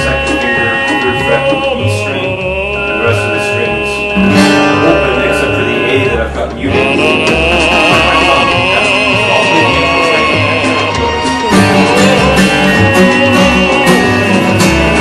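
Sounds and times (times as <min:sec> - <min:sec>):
bouncing bass line: 0:00.0 - 0:15.0
man singing: 0:00.0 - 0:15.0
orchestral pop music: 0:00.0 - 0:15.0.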